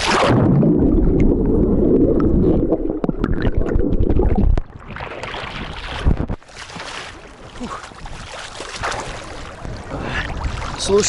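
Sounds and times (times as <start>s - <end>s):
underwater bubbles and churning water: 0.0s - 11.0s
water splashing: 0.0s - 11.0s.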